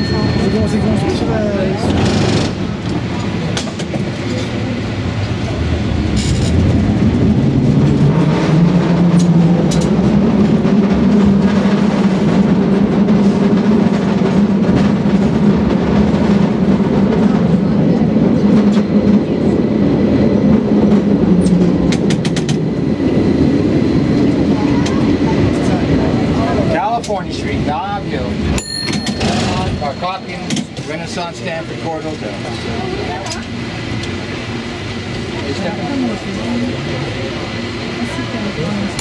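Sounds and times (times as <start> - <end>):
rail car humming on track: 0.0 - 39.0.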